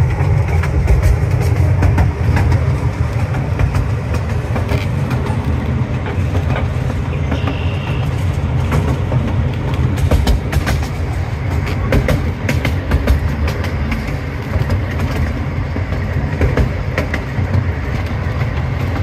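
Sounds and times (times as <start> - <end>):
small train rumbling: 0.0 - 19.0
wheels clicking over rail joints: 0.0 - 19.0.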